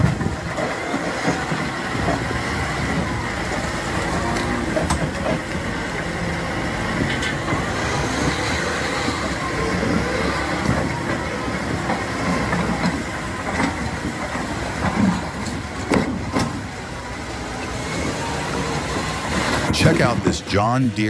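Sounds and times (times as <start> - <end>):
tractor engine running: 0.0 - 21.0
water rushing and splashing: 0.0 - 21.0.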